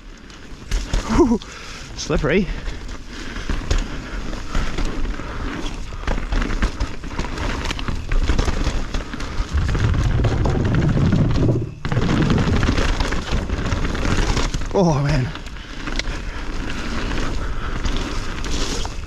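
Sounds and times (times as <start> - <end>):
bike rattling over roots: 0.0 - 19.0
wind and tyre rumble: 0.0 - 19.0.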